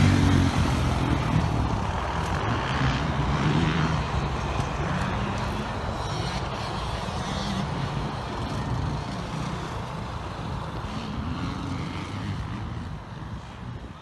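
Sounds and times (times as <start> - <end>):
motocross bike engine revving: 0.0 - 9.9, 10.8 - 13.0.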